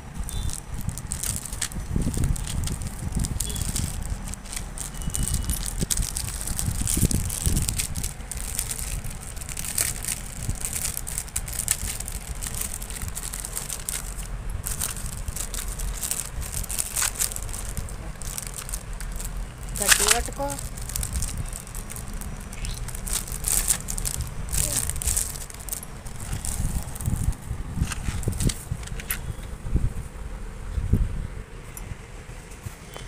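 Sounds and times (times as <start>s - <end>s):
low handling rumble: 0.0s - 33.0s
plastic packet crinkling: 0.2s - 29.1s.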